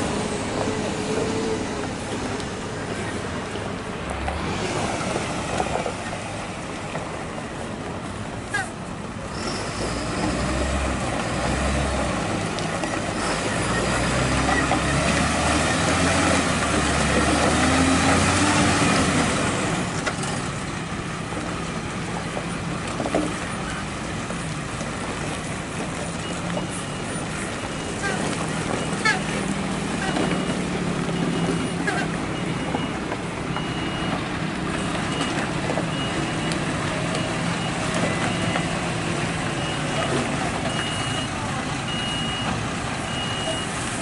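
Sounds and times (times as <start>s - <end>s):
truck diesel engine under load: 0.0s - 44.0s.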